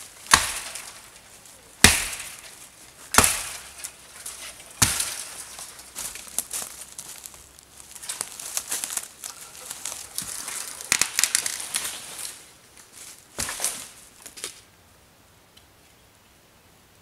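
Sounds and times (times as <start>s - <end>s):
footsteps crunching through undergrowth: 0.0s - 14.7s
twigs crackling and snapping: 0.0s - 14.7s.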